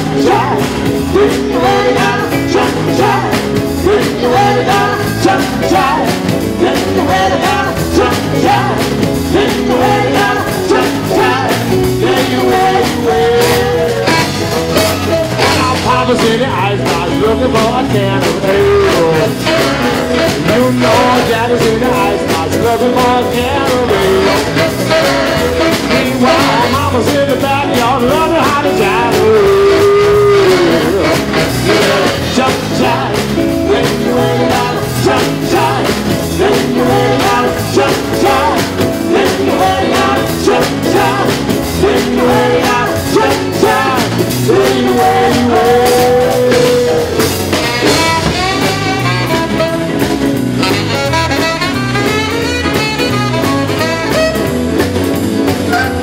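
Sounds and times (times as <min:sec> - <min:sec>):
saxophone section: 0:00.0 - 0:16.0, 0:18.5 - 0:22.2, 0:23.4 - 0:27.3, 0:28.3 - 0:56.0
people singing: 0:00.0 - 0:49.8
drum kit: 0:00.0 - 0:56.0
keyboard: 0:00.0 - 0:56.0.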